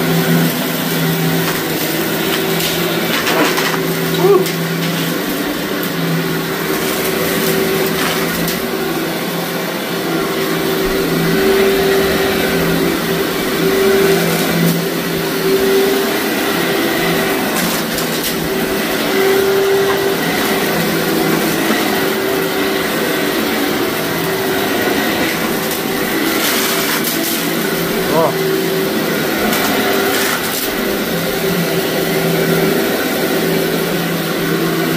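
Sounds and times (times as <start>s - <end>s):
debris crackling in vacuum: 0.0s - 34.9s
vacuum cleaner running: 0.0s - 34.9s.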